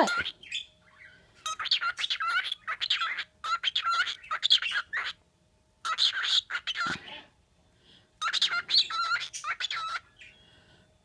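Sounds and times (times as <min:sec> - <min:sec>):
pet birds chattering: 0:00.0 - 0:05.2, 0:05.8 - 0:07.4, 0:08.2 - 0:10.5.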